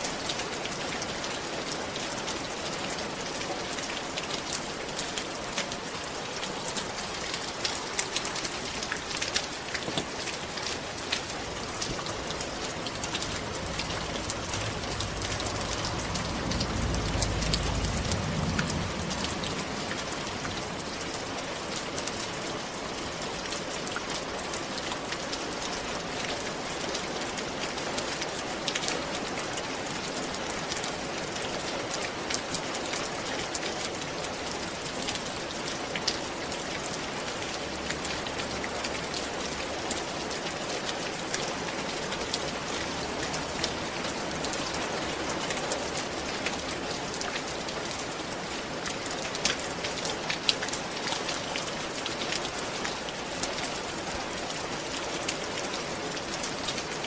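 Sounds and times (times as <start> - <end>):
rain on a roof: 0.0 - 57.0.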